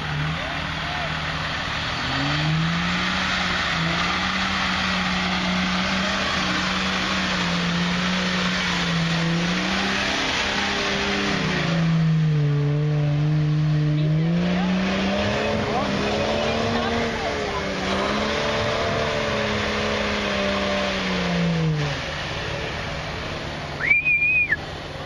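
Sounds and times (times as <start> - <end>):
engine revving: 0.0 - 24.6
tyres churning mud and water: 0.0 - 25.0.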